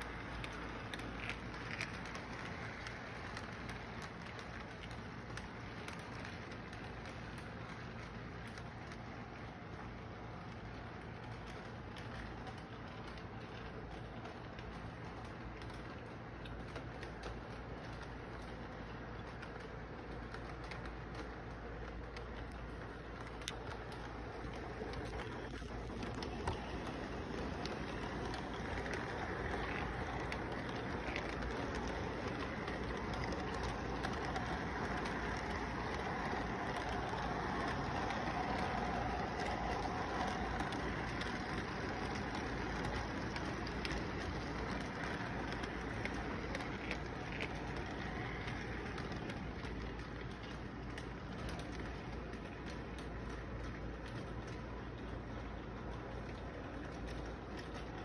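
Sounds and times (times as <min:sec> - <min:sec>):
model train rumbling on track: 0:00.0 - 0:58.0.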